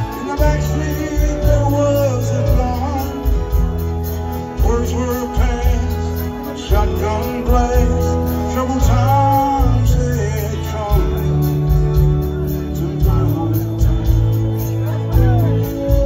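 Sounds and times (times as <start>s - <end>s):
live rock band playing: 0.0s - 16.0s
man singing: 0.0s - 16.0s.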